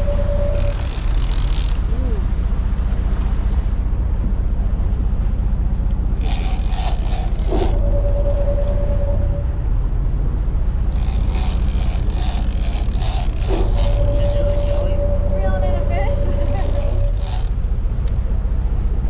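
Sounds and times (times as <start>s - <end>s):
boat engine rumbling: 0.0s - 19.0s
thin steady whine: 0.0s - 19.0s.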